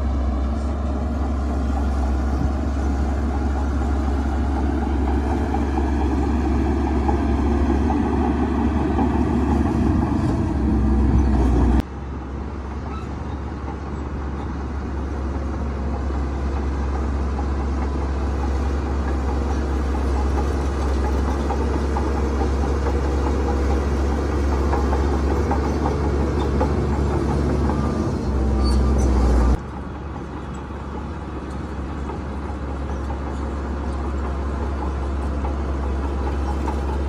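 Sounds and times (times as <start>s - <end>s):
heavy machinery engine rumbling: 0.0s - 37.0s.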